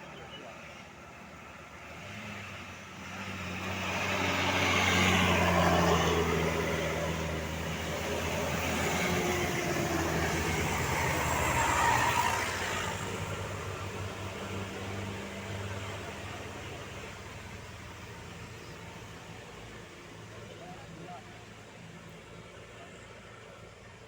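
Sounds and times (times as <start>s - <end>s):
bus diesel engine: 0.0s - 24.0s.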